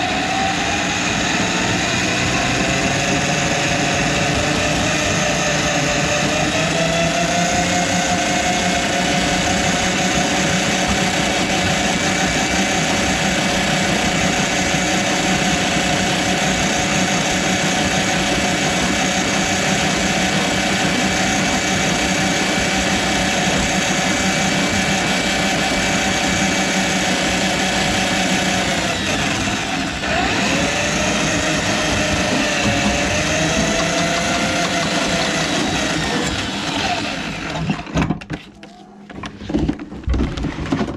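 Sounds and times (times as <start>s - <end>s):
drain auger motor whining: 0.0s - 40.9s.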